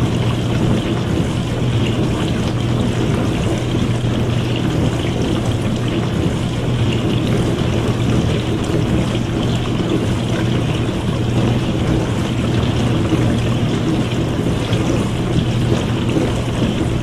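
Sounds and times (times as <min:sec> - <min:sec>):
dishwasher hum: 0:00.0 - 0:17.0
water spraying and sloshing: 0:00.0 - 0:17.0.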